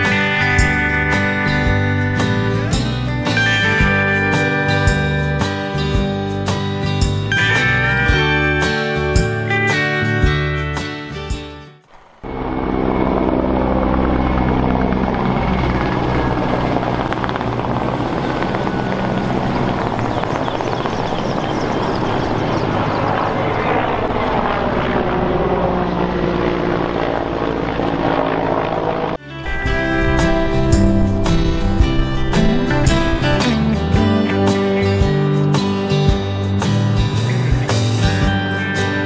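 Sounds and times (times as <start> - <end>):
aircraft engine drone: 0.0 - 10.2, 11.8 - 39.0.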